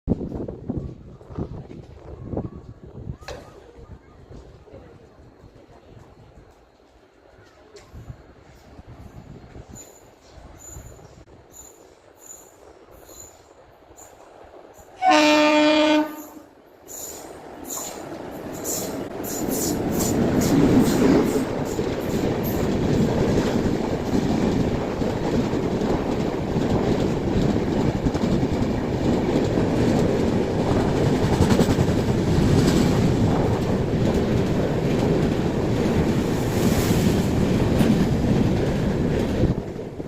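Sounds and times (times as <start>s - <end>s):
train wheels rumbling on rails: 0.1s - 40.0s.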